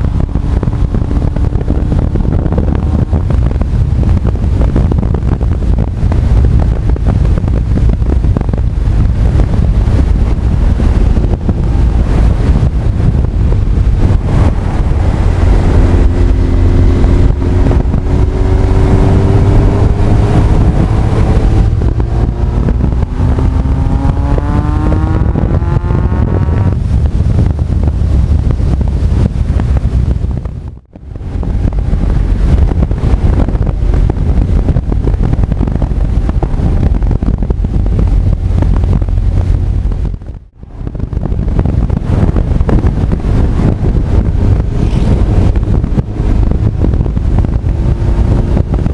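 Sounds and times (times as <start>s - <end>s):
motorcycle engine accelerating: 0.0s - 48.9s
wind noise on microphone: 0.0s - 48.9s.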